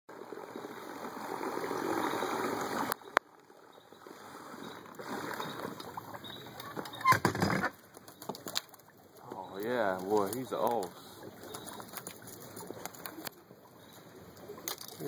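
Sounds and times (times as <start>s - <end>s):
water sloshing and splashing: 0.1s - 15.0s.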